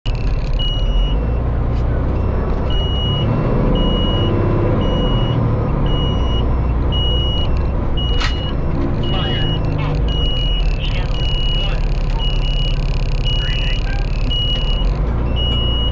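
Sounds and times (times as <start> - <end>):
diesel engine rumbling: 0.0 - 15.9
high electronic beeps: 0.1 - 15.9.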